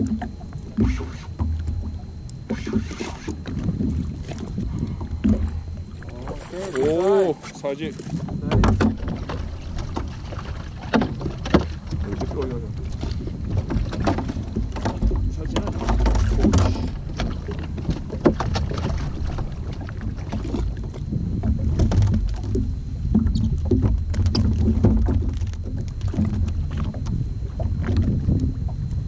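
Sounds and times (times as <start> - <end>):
water lapping against hull: 0.0 - 29.0.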